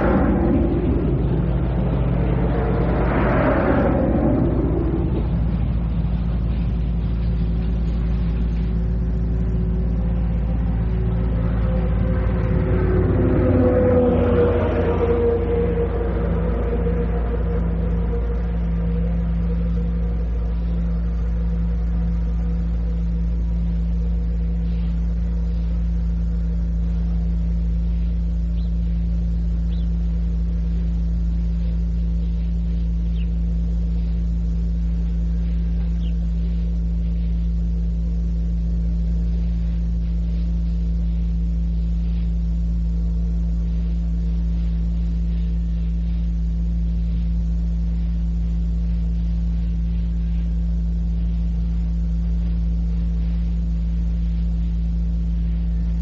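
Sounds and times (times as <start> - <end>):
electrical hum: 0.0 - 56.0
tape hiss: 0.0 - 56.0
faint high-pitched chirps: 6.0 - 56.0.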